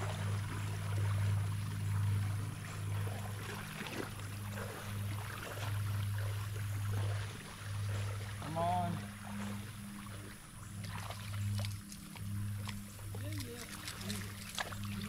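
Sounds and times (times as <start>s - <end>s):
low steady hum: 0.0s - 15.0s
river water lapping: 0.0s - 15.0s.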